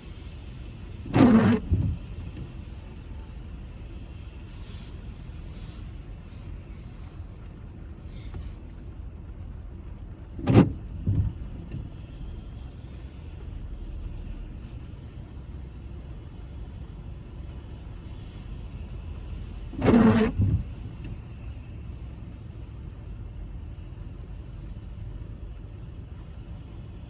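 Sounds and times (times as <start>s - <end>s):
car road rumble: 0.0s - 27.0s.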